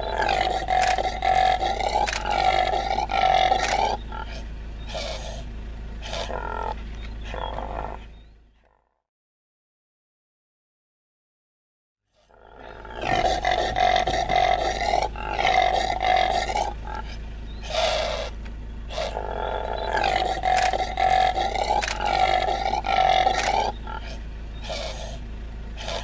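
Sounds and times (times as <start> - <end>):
steady low hum: 0.0 - 8.6, 12.2 - 26.0
impala harsh grunting calls: 0.0 - 8.9, 12.2 - 26.0.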